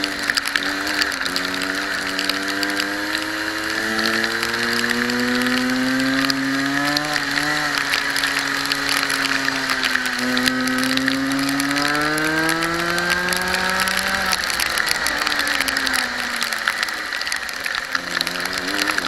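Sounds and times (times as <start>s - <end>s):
kart engine accelerating: 0.0s - 19.0s
rapid scattered clicks: 0.0s - 19.0s.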